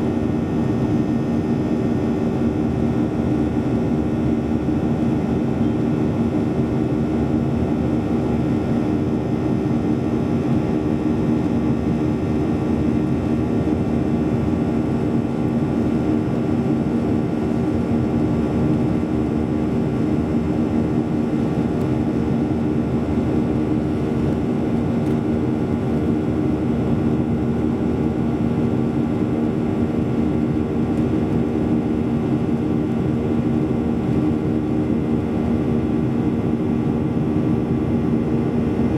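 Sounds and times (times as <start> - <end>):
jet engines droning: 0.0 - 38.9.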